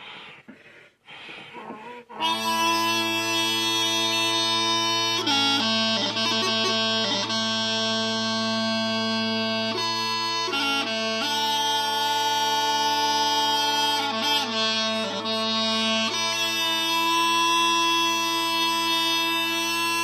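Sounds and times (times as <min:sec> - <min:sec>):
smallpipes chanter melody: 0:02.0 - 0:20.0.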